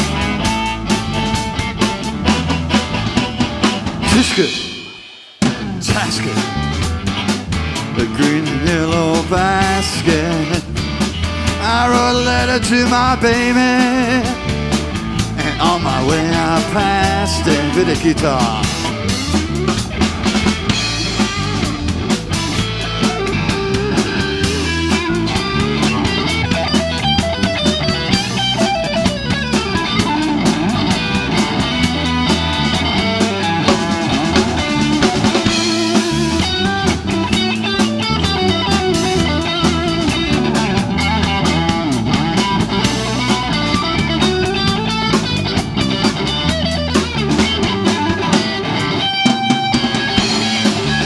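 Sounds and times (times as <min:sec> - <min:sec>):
blues band playing: 0:00.0 - 0:51.0
electric guitar lead: 0:00.0 - 0:51.0.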